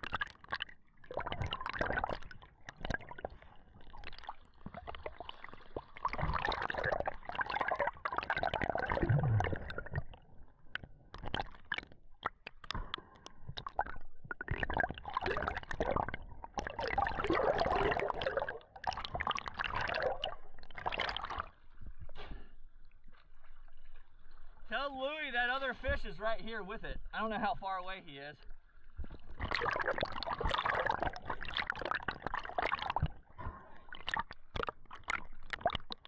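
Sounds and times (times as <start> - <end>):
water gurgling and sloshing: 0.0 - 36.0.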